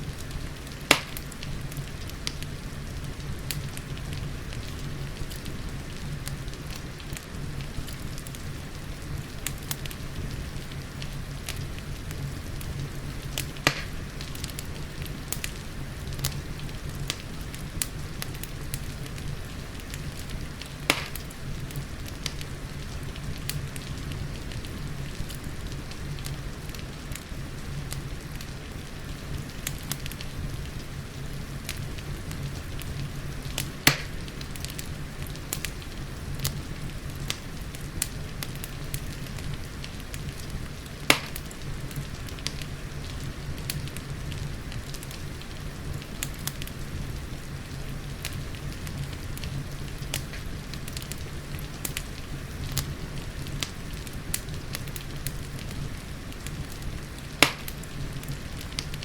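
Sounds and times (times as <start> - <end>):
fireplace crackling: 0.0 - 59.0
loud fire pops: 0.0 - 59.0
rain rushing: 0.0 - 59.0.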